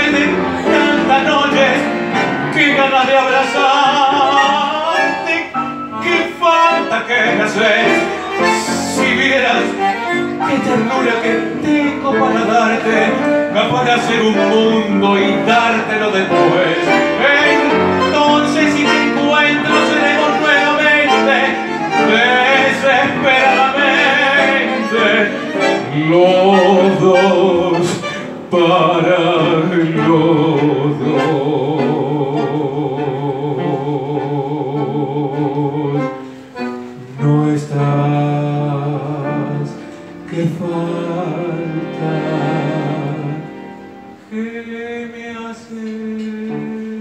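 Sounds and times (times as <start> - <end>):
bandoneon: 0.0 - 44.8
man singing tango: 0.0 - 47.0.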